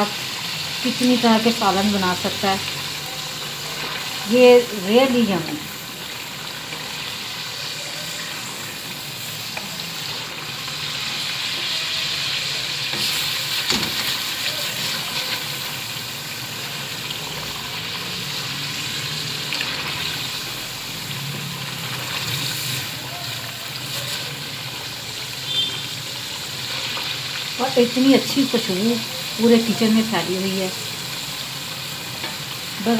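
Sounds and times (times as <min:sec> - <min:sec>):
curry sizzling in a pan: 0:00.0 - 0:32.9.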